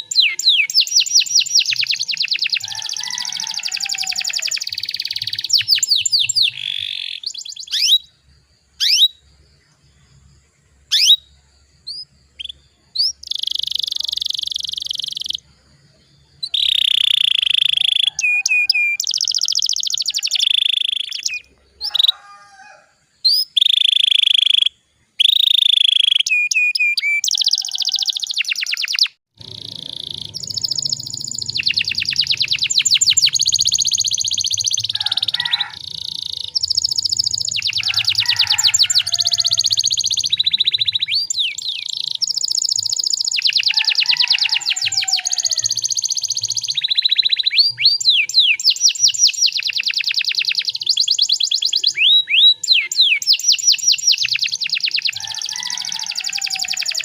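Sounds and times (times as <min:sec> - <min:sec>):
canary singing: 0:00.0 - 0:09.3, 0:10.8 - 0:15.5, 0:16.2 - 0:57.0.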